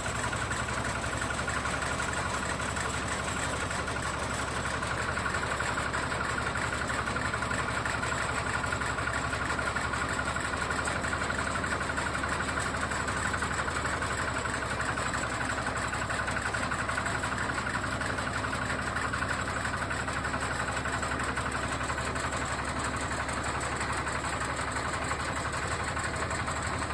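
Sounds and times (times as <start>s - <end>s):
harvester engine running: 0.0s - 26.9s.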